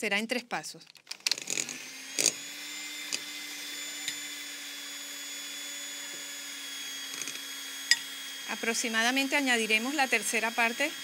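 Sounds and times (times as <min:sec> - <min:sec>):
electric hand mixer whisking batter: 0:01.2 - 0:11.0.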